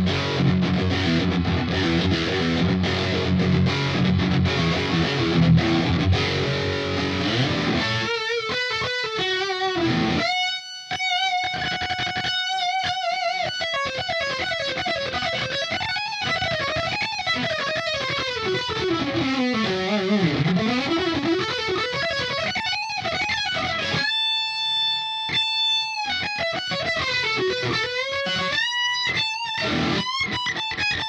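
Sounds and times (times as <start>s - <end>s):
electric guitar chord riffing: 0.0s - 31.0s
electric guitar lead line: 0.0s - 31.0s.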